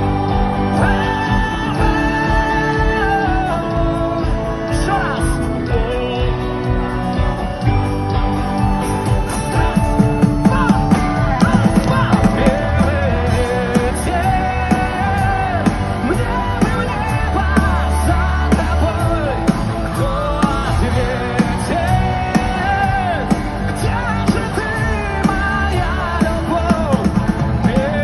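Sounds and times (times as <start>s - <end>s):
man singing: 0.0s - 7.7s, 9.5s - 28.0s
rock band with drums: 0.0s - 28.0s.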